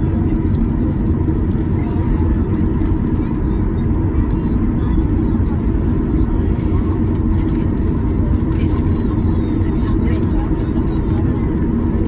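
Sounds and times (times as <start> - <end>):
aircraft cabin engine rumble: 0.0 - 12.0
faint engine whine: 0.0 - 12.0.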